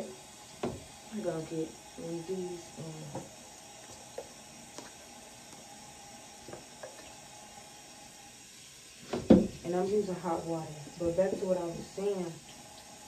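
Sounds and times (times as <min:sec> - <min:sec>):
tap water running: 0:00.0 - 0:13.0.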